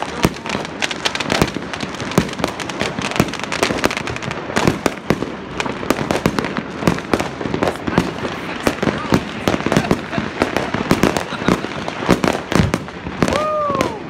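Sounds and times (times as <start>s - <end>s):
fireworks popping and banging: 0.0s - 14.0s.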